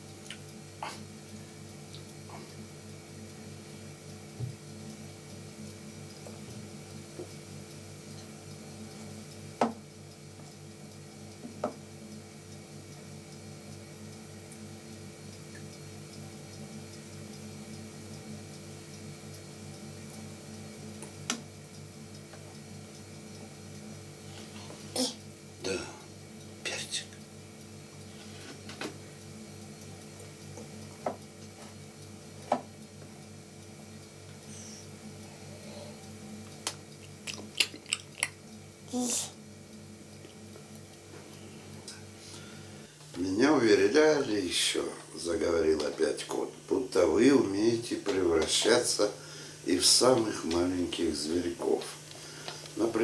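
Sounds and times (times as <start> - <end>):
low pulsing hum: 0.0 - 53.0.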